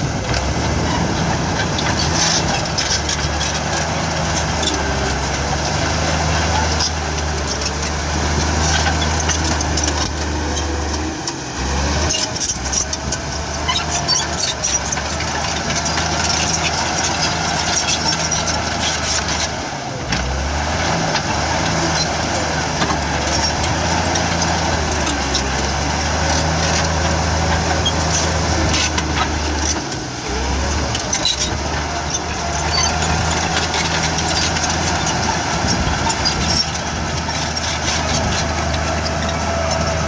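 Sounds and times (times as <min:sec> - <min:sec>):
bulldozer diesel engine humming: 0:00.0 - 0:40.0.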